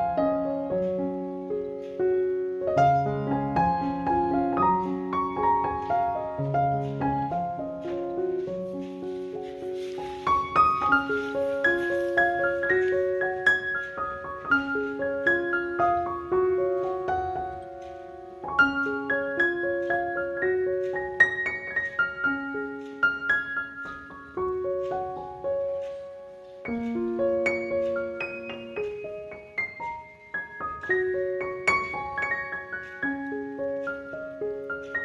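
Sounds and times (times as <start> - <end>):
gentle piano melody: 0.0 - 35.0.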